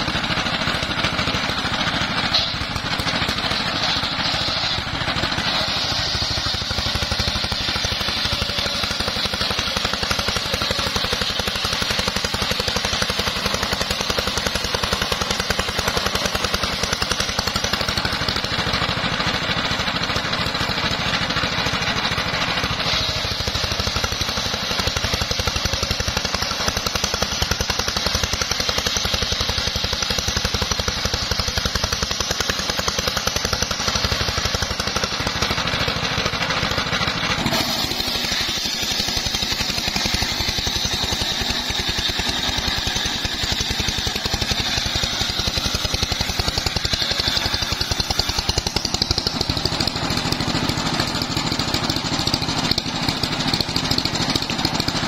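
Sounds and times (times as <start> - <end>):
stationary engine pulsing: 0.0 - 55.0
circular saw blade whining: 1.2 - 55.0.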